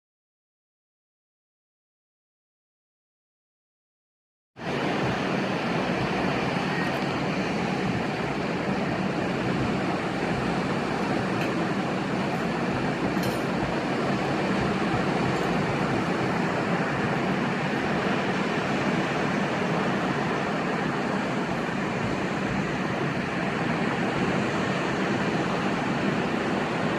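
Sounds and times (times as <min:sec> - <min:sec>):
waves washing: 0:04.6 - 0:26.9.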